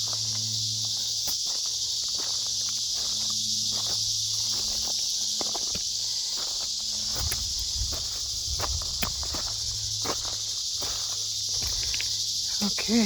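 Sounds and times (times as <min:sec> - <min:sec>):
footsteps crunching on trail: 0:00.0 - 0:13.0
high-pitched insect chorus: 0:00.0 - 0:13.0.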